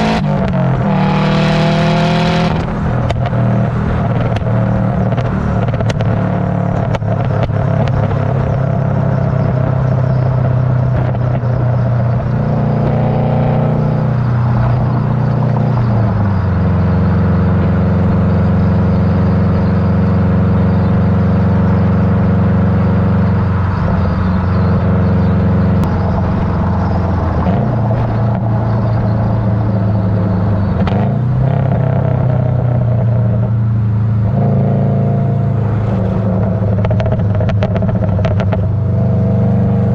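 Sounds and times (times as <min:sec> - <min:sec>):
loud car exhaust revving: 0:00.0 - 0:39.9.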